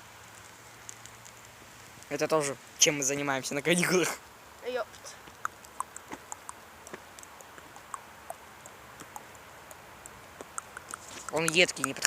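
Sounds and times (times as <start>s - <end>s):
campfire popping and ticking: 0.0s - 12.0s
faint hiss: 0.0s - 12.0s.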